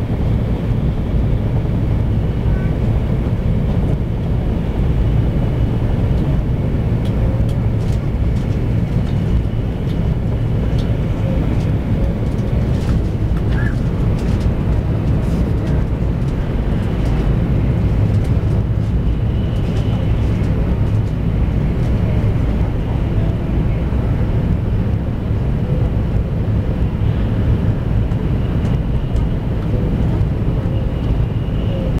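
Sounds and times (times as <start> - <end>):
rushing air noise: 0.0 - 32.0
train wheels rumbling on rail: 0.0 - 32.0.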